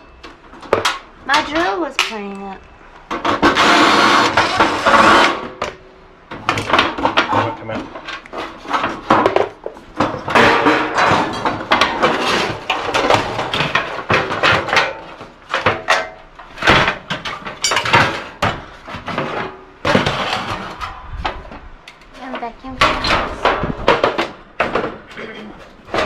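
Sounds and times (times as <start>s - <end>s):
metal knocking and scraping: 3.1s - 26.0s.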